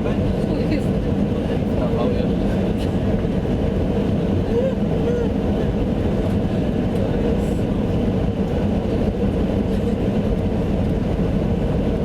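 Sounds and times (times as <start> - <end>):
plane cabin engine rumble: 0.0 - 12.0.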